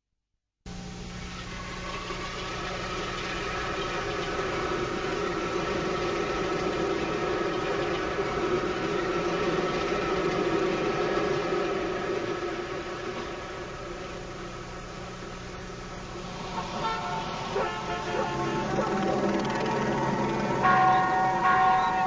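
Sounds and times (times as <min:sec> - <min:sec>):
machine-like drone: 0:00.7 - 0:22.0.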